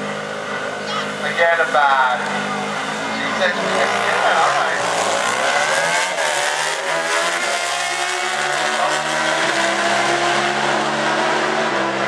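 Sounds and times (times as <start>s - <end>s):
motorcycle engines revving high: 0.0s - 12.0s.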